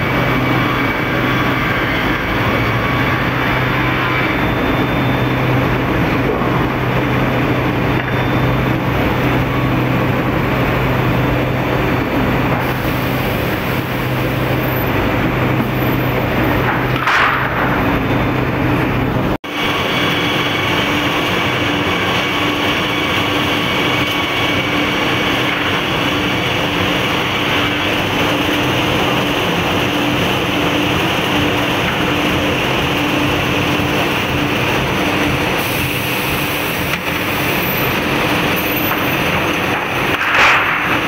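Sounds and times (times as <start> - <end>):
sawmill machinery noise: 0.0 - 41.0.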